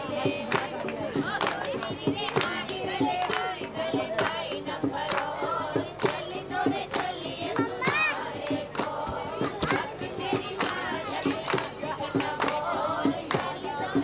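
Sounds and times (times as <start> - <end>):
women singing together: 0.0 - 14.0
hand clapping in time: 0.2 - 14.0.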